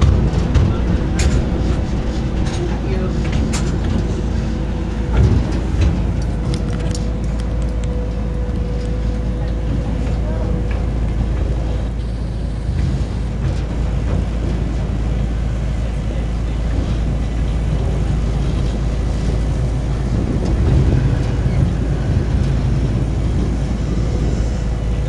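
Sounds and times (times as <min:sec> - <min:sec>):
miniature train rumbling: 0:00.0 - 0:25.0
wind buffeting microphone: 0:00.0 - 0:25.0.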